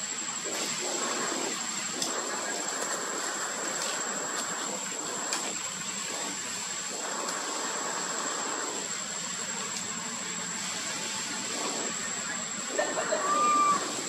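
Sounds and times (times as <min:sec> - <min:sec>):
steady background hiss: 0:00.0 - 0:14.0
thin high-pitched whine: 0:00.0 - 0:14.0.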